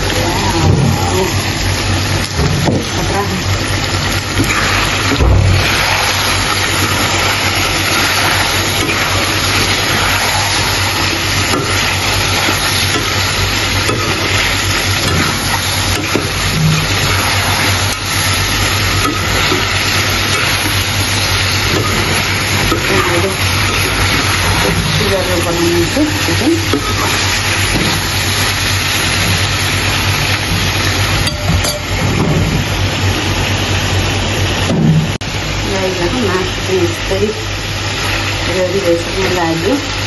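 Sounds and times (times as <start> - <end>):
chicken frying in oil: 0.0 - 40.0.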